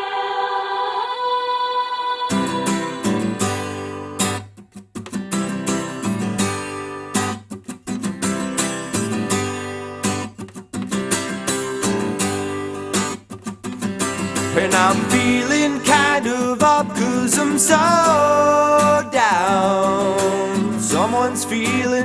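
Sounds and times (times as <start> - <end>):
strummed acoustic guitar: 2.3 - 22.0.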